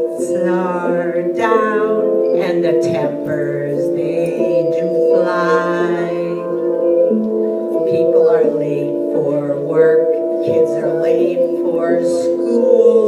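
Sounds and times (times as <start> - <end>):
person singing into a microphone: 0.0 - 6.7, 7.7 - 13.0
instrumental backing track: 0.0 - 13.0.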